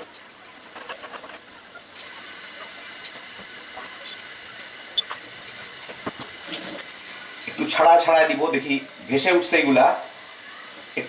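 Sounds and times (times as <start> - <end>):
batter sizzling in hot oil: 0.0 - 11.0.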